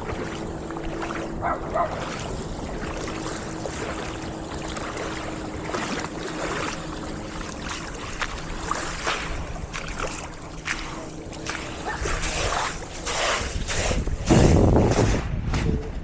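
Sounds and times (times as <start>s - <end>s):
small waves washing ashore: 0.0s - 15.4s
wind on microphone: 0.0s - 16.0s.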